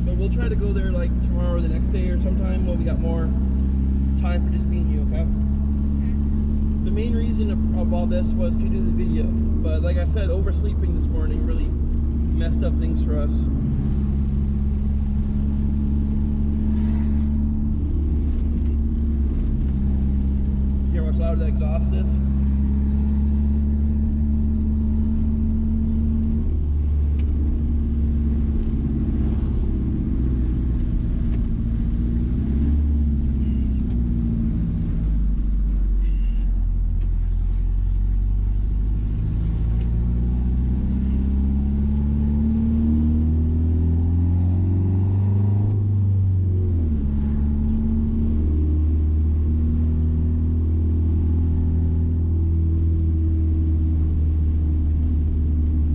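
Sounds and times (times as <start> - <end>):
pickup engine and exhaust rumble: 0.0 - 55.9.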